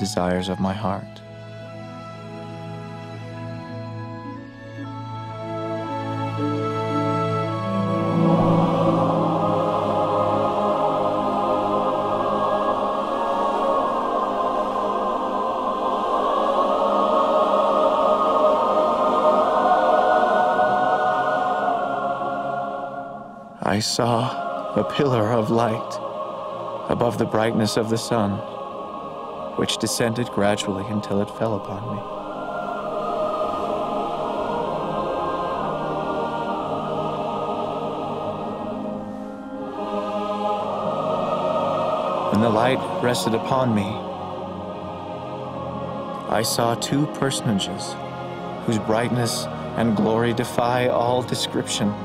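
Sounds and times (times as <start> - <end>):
choir singing held chords: 0.0 - 52.0.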